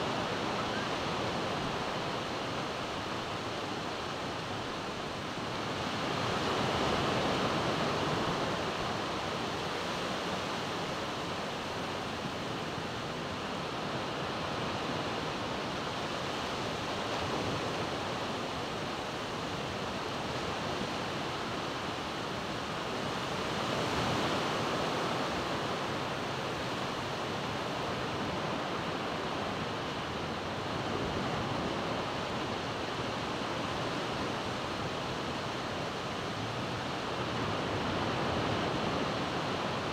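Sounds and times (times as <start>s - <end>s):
ocean surf washing: 0.0s - 39.9s
wind: 0.0s - 39.9s.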